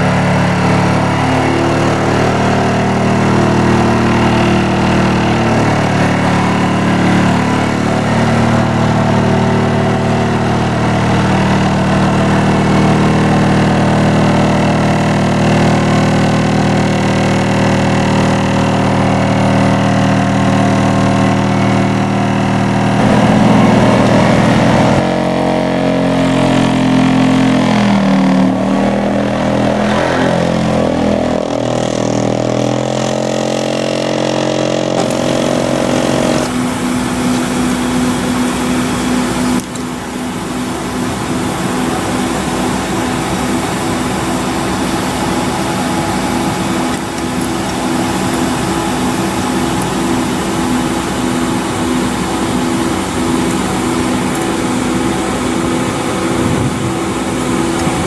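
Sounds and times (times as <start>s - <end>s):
vibratory pile driver droning: 0.0s - 58.0s.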